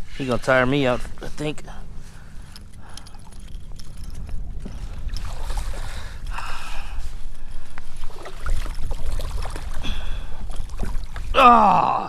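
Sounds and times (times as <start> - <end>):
wind rumble on microphone: 0.0 - 11.4
water sloshing and splashing: 0.0 - 11.7.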